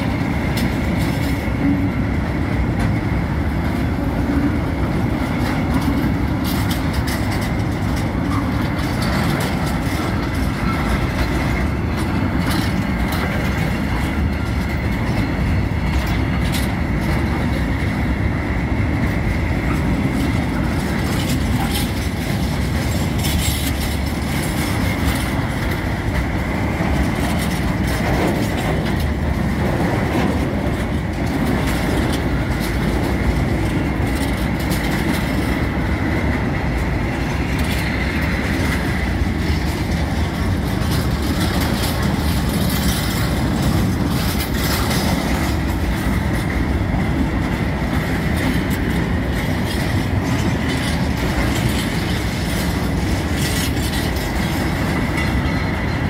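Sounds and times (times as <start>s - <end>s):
clacking over rail joints: 0.0s - 56.0s
train wheels rumbling on rail: 0.0s - 56.0s.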